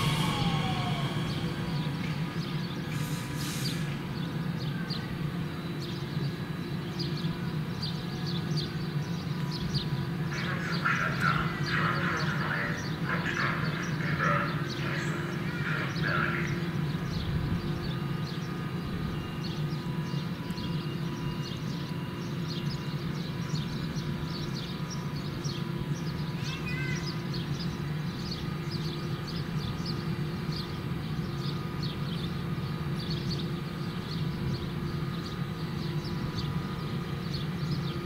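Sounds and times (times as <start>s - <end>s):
electric train humming: 0.0s - 26.4s, 27.2s - 38.0s.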